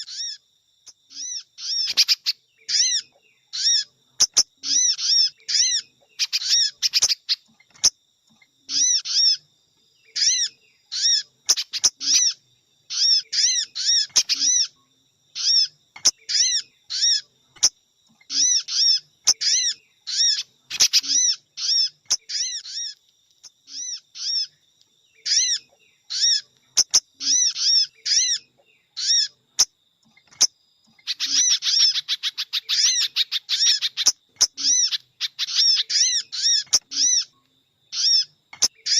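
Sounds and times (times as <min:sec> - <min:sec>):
high short bird chirps: 0:01.1 - 0:08.0, 0:10.1 - 0:24.6, 0:25.2 - 0:38.9.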